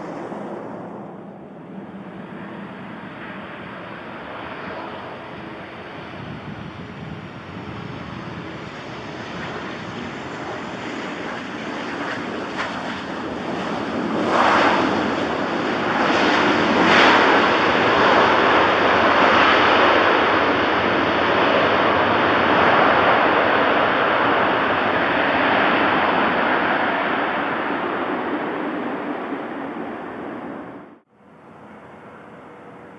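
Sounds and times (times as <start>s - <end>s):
jet engine roar: 0.0s - 32.9s.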